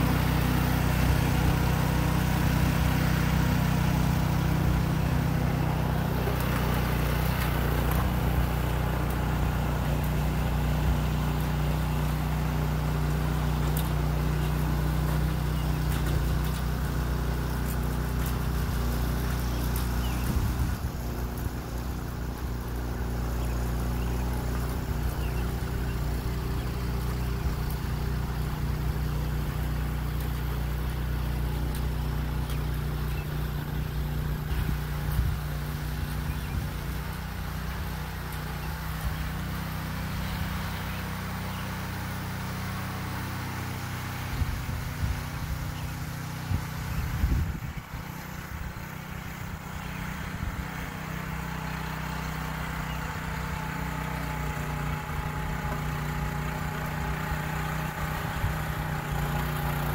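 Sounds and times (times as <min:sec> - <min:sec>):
rototiller engine running: 0:00.0 - 0:59.9.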